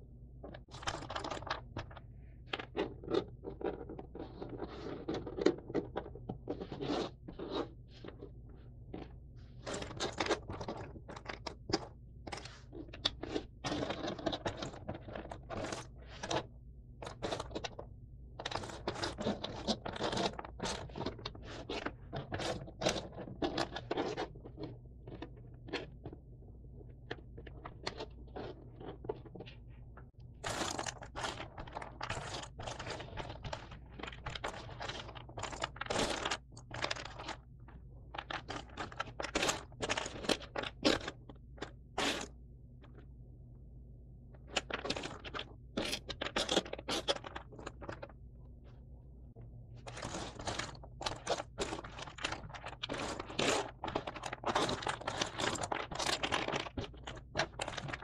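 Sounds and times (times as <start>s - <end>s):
puzzle pieces clicking and scraping: 0.4s - 17.8s, 18.4s - 43.0s, 44.4s - 48.2s, 49.8s - 58.0s.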